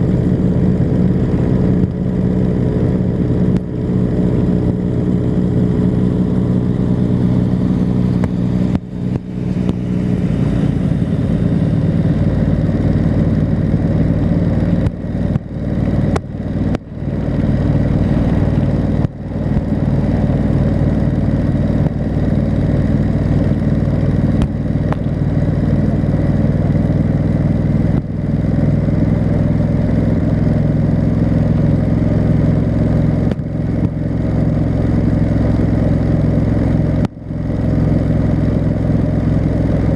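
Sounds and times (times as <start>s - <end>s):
motorcycle engine chugging: 0.0s - 39.9s.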